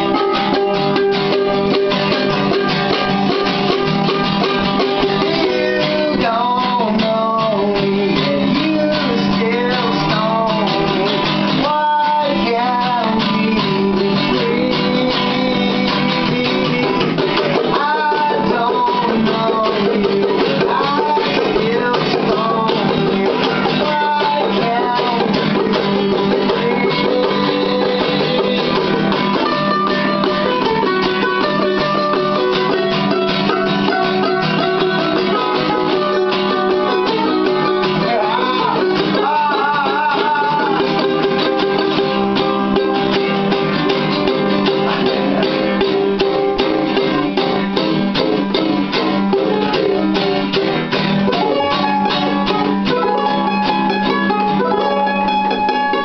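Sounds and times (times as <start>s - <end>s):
two guitars playing: 0.0s - 56.0s.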